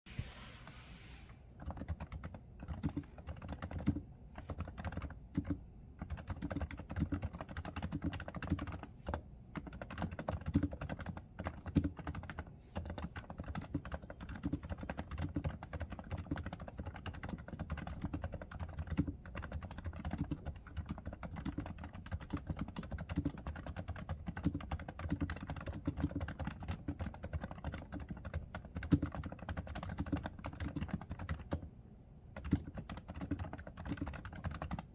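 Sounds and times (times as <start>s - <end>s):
muted keyboard keystrokes: 1.6s - 31.7s, 32.4s - 34.9s.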